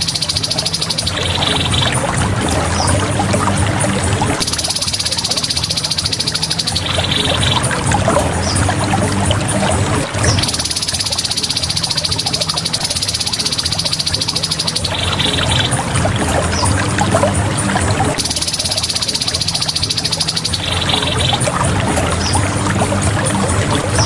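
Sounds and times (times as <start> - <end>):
bird giving buzzy trills: 0.0 - 24.0
running water: 0.0 - 24.0.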